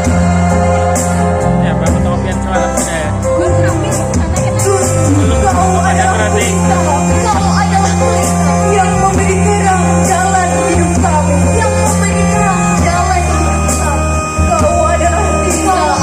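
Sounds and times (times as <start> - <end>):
instrumental accompaniment: 0.0 - 16.0
low bass notes: 0.0 - 16.0.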